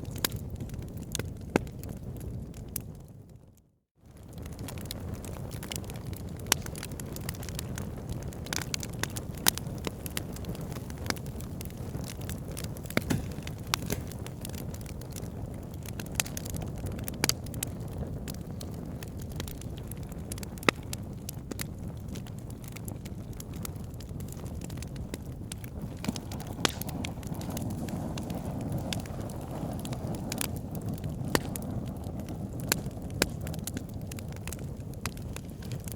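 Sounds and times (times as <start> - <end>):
fire crackling and popping: 0.0 - 35.9.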